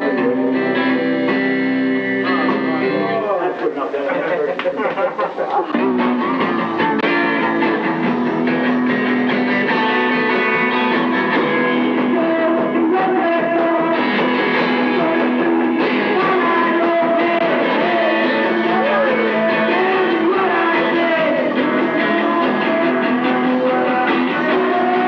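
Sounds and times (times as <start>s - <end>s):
person singing: 0.0s - 1.4s, 2.1s - 3.2s, 5.4s - 25.0s
live band music: 0.0s - 4.0s, 4.8s - 25.0s.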